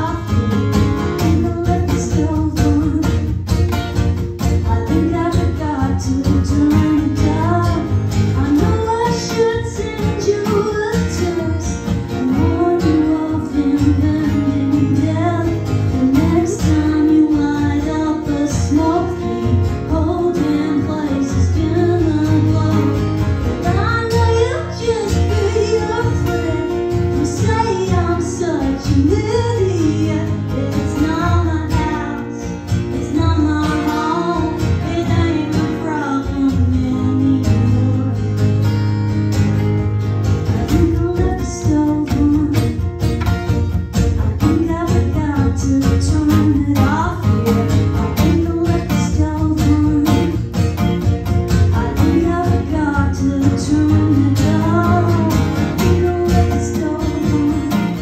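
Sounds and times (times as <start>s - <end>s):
woman singing: 0.0s - 39.0s, 40.4s - 58.0s
acoustic guitars: 0.0s - 58.0s.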